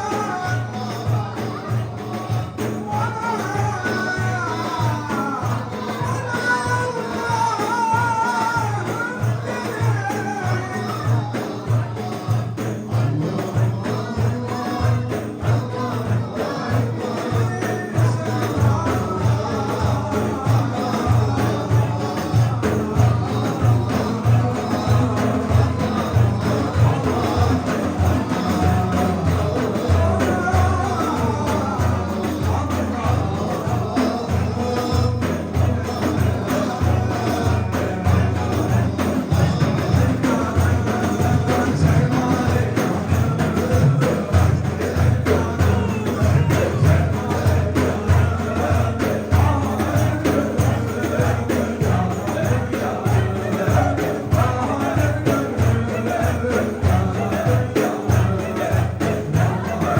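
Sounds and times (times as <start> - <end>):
fast hand drum beat: 0.0 - 59.9
person singing devotional hymn: 0.0 - 59.9.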